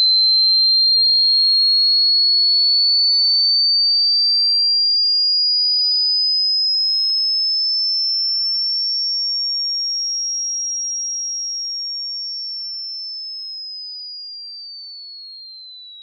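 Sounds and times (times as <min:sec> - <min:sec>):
high-pitched sine tone: 0:00.0 - 0:16.0.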